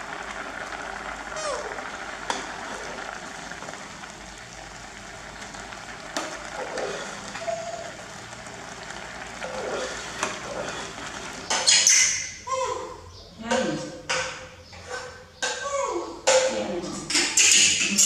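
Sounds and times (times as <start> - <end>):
porridge bubbling in a saucepan: 0.0 - 18.0.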